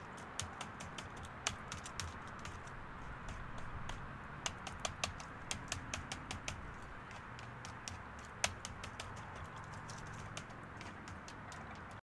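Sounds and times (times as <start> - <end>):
twigs clicking and tapping: 0.0 - 12.0.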